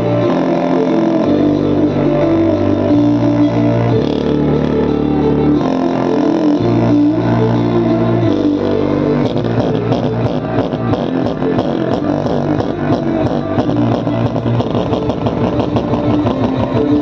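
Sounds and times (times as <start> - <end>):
bass-heavy music through subwoofer: 0.0 - 17.0.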